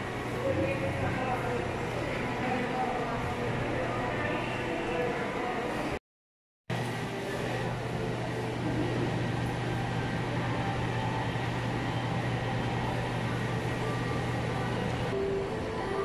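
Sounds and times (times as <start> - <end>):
low mechanical hum: 0.0 - 6.0, 6.7 - 16.0.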